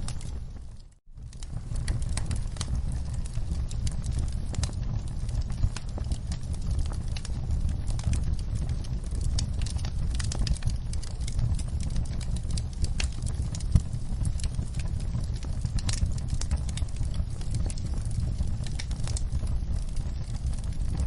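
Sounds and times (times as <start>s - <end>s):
fire popping: 0.0s - 21.0s
low rumble: 0.0s - 21.0s
wood fire crackling: 0.0s - 21.0s.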